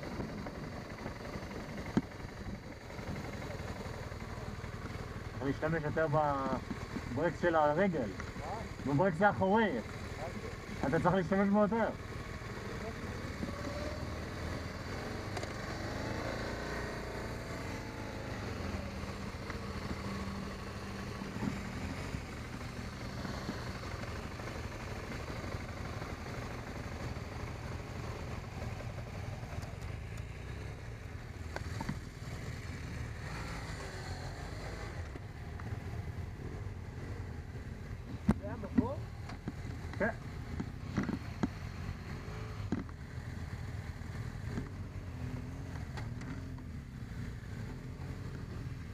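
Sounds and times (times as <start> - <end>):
motorcycle engine running: 0.0 - 48.9
road and wind noise: 0.0 - 48.9.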